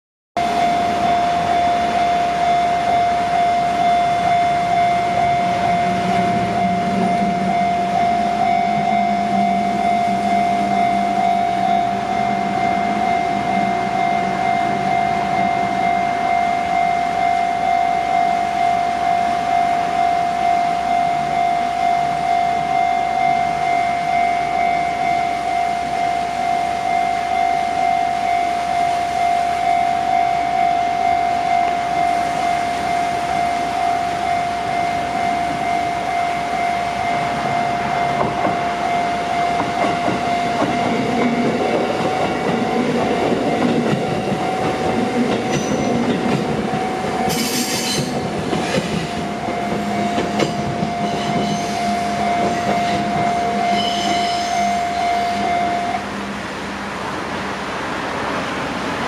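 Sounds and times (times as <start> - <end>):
level crossing alarm ringing: 0.4 - 56.7
train rumbling past: 0.4 - 59.0.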